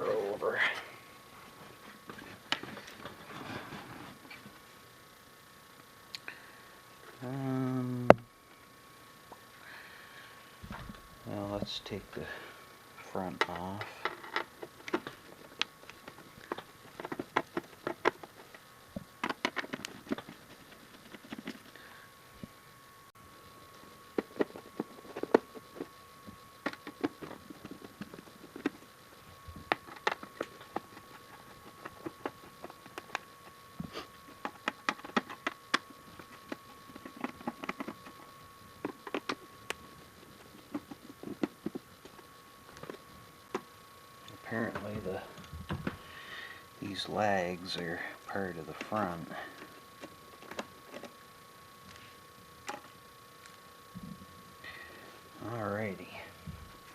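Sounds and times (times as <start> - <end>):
faint steady whine: 0.0 - 56.9.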